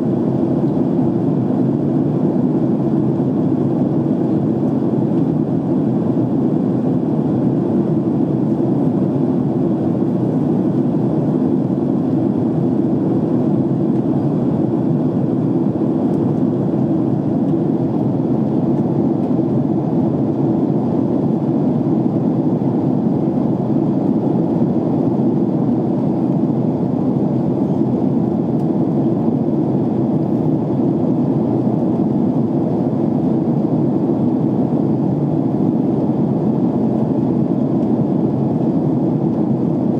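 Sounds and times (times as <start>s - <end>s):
airliner cabin engine rush: 0.0s - 39.9s.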